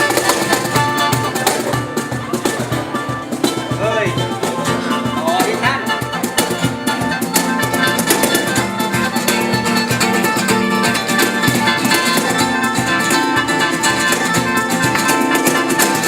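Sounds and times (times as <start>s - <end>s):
percussion beat: 0.0s - 16.0s
plucked string instrument: 0.0s - 16.0s.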